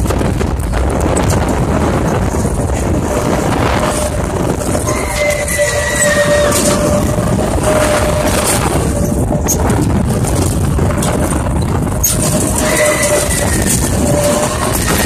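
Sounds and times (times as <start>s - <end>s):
carnival ride rumble and rush: 0.0s - 15.0s
thin steady whine: 1.2s - 15.0s.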